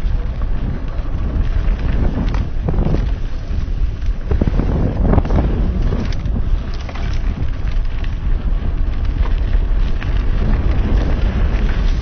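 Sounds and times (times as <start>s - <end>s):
tyres clicking on gravel: 0.0s - 12.0s
wind rumble on microphone: 0.0s - 12.0s.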